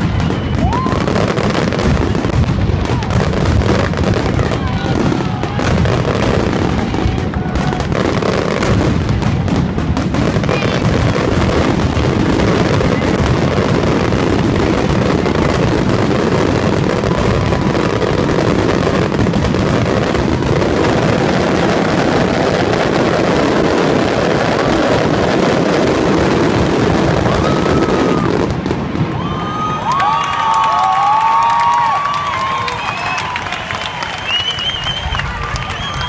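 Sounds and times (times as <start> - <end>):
fireworks bangs and crackle: 0.0 - 36.0.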